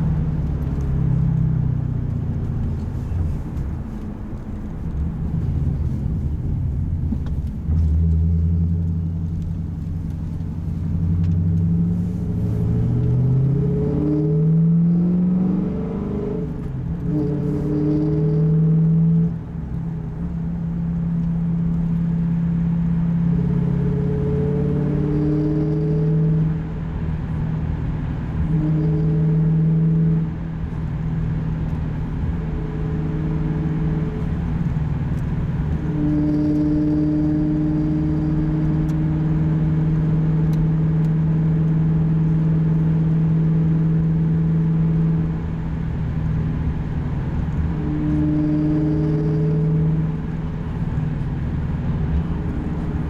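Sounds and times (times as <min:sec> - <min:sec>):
car engine accelerating and cruising: 0:00.0 - 0:53.0.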